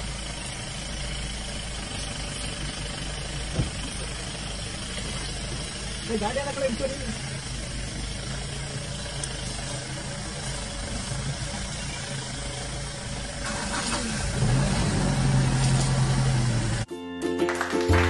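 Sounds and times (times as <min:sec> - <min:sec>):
vehicle engine idling: 0:00.0 - 0:16.9.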